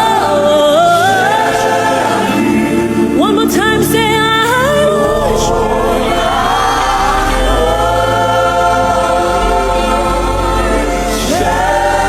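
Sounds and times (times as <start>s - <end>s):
bass and keyboard accompaniment: 0.0s - 12.0s
choir singing: 0.0s - 12.0s.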